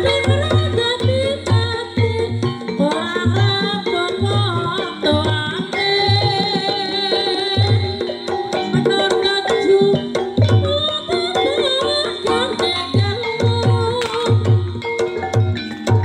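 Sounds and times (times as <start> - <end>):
gamelan melodic instruments: 0.0 - 16.0
hand drum deep beats: 0.0 - 16.0.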